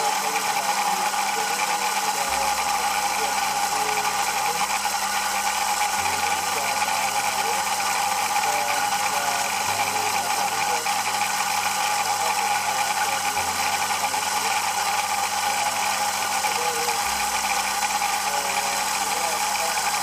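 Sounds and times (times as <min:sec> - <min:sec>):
coffee grinder grinding beans: 0:00.0 - 0:20.0.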